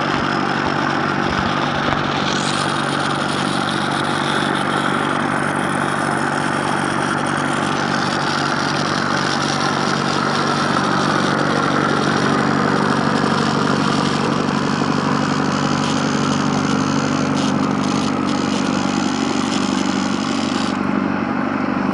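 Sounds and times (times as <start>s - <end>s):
motor running steadily: 0.0s - 21.9s.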